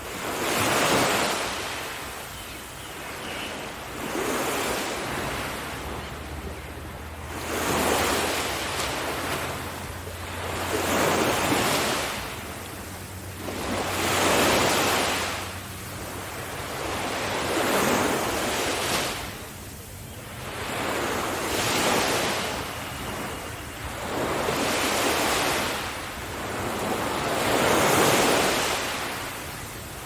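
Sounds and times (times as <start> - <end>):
sea waves breaking on beach: 0.0 - 30.0
wind: 0.0 - 30.0.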